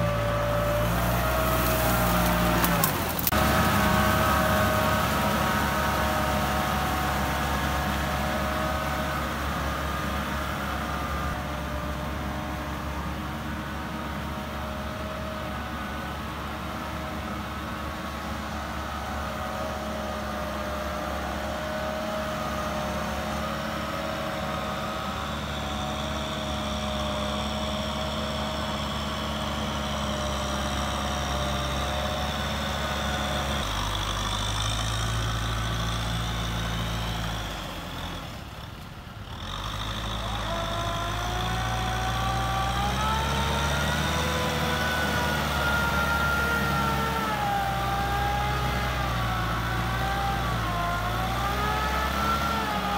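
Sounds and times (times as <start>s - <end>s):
tractor diesel engine working hard: 0.0s - 52.9s.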